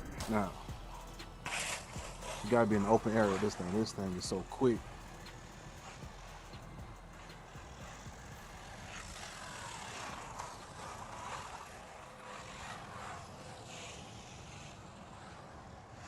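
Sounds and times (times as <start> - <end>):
toy car electric motor whining: 0.0 - 16.0.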